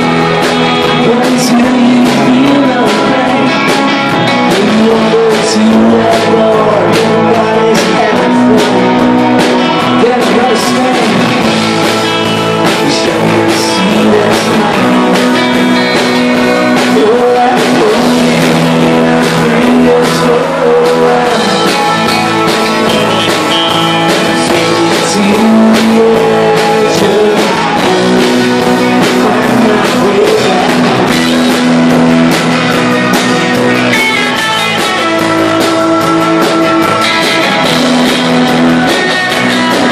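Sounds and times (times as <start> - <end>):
man singing: 0.0 - 39.9
rock band playing live: 0.0 - 39.9.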